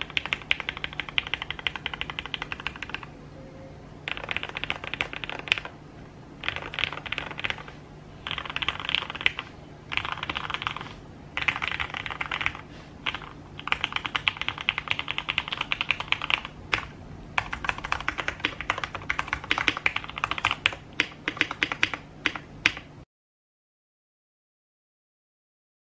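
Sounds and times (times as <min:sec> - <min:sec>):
mechanical keyboard typing: 0:00.0 - 0:03.1, 0:04.1 - 0:05.7, 0:06.4 - 0:22.9.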